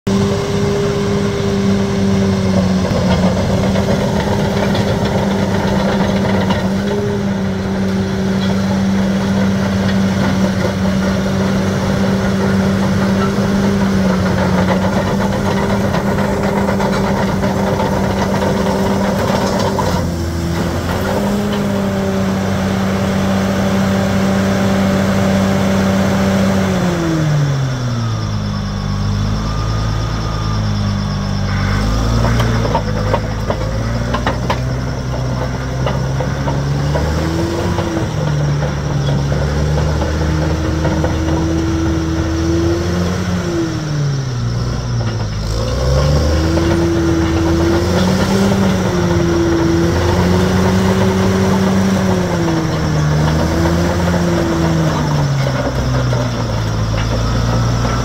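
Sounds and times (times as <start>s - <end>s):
bulldozer diesel engine running: 0.1s - 58.0s.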